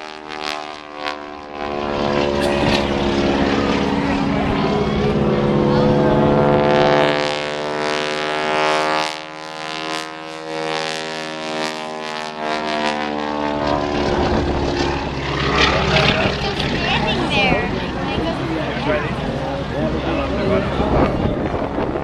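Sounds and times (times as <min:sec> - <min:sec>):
propeller plane droning past: 0:00.0 - 0:22.0.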